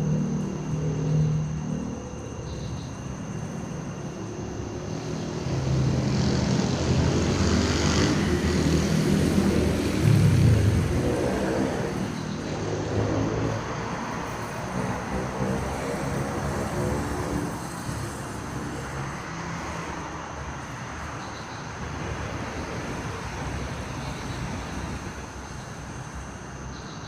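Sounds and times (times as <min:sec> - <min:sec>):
vehicle passing: 0:03.3 - 0:26.0.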